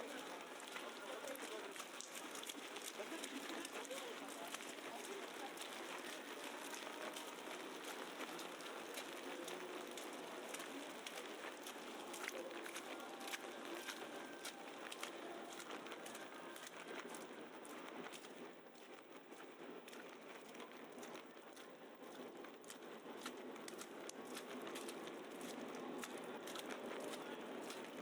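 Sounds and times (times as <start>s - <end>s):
footsteps crunching in snow: 0.0s - 28.0s.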